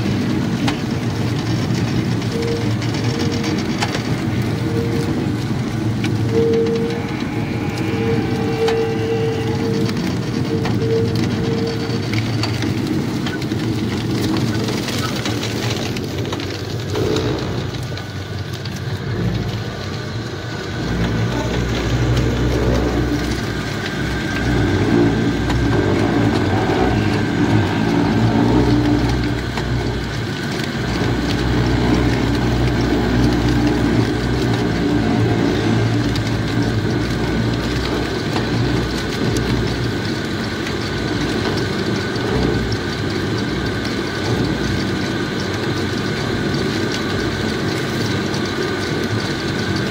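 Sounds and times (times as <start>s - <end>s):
sugarcane crusher engine running: 0.0s - 49.9s.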